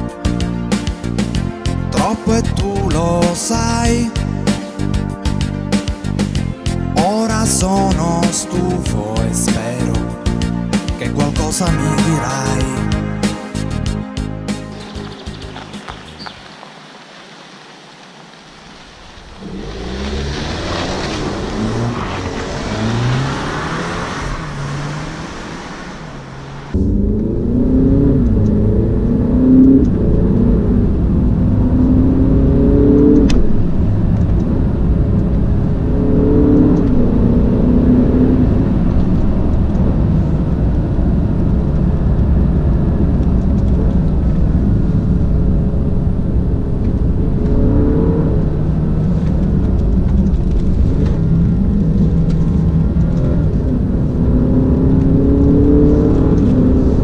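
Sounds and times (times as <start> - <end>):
car engine accelerating: 0.0 - 57.0
road and tyre noise: 0.0 - 57.0.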